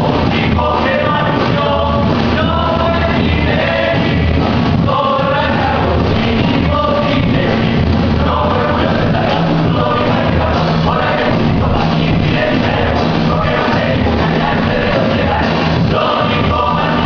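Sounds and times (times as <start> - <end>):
person singing: 0.0 - 17.0
steady bass line: 0.0 - 17.0.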